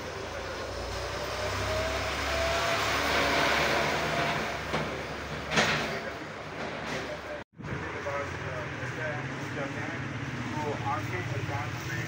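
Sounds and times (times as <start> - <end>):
motor vehicle passing by: 0.0 - 12.0.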